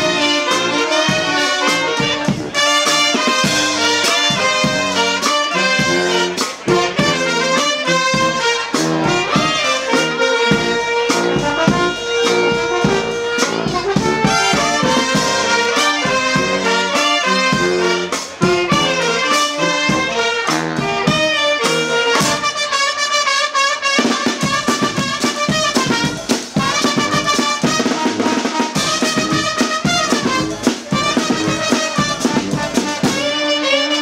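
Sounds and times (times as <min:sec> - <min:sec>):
brass band playing: 0:00.0 - 0:34.0.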